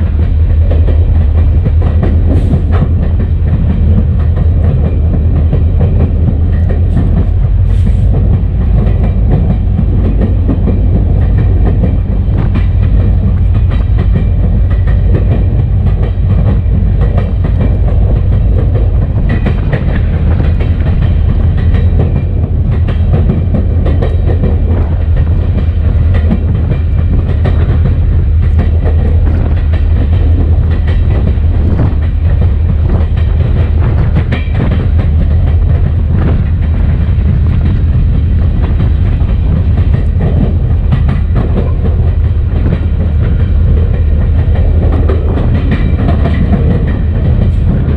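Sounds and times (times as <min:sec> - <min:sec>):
diesel locomotive engine drone: 0:00.0 - 0:47.9
wheels clicking on rail: 0:00.0 - 0:47.9.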